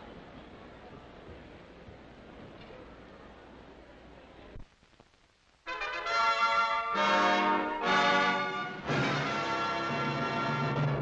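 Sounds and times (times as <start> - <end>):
broadcast hiss and hum: 0.0 - 11.0.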